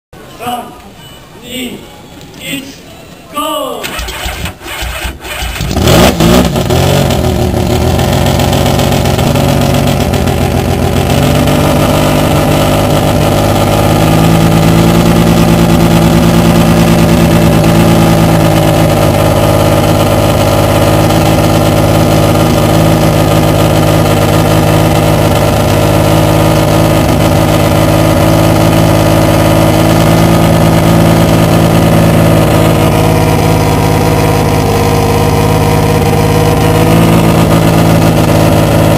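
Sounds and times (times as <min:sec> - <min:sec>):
rotary racing engine starting and idling: 0:03.8 - 0:38.9.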